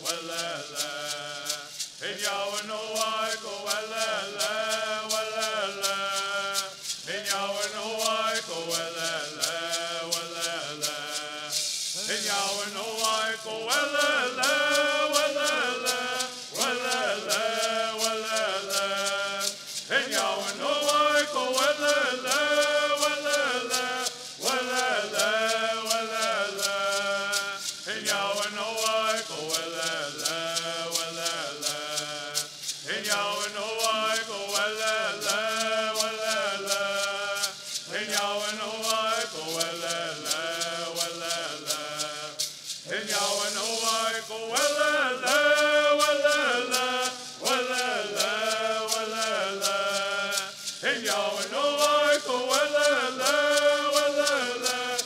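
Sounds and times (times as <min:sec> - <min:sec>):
gourd rattles shaking: 0:00.0 - 0:55.0
men singing in unison: 0:00.0 - 0:55.0.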